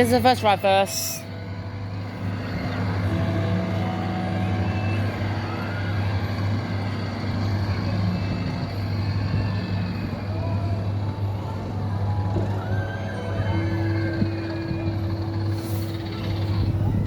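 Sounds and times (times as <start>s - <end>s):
kiddie ride engine-like hum: 0.0s - 17.0s.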